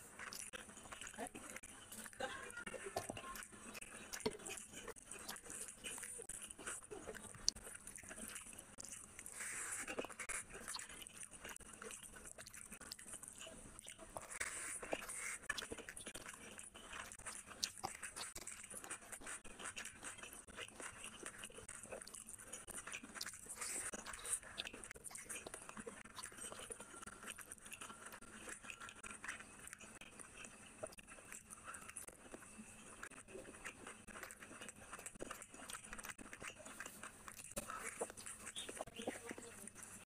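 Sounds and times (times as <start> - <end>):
chewing and wet mouth sounds: 0.0 - 40.0
fingers squelching rice: 0.0 - 40.0.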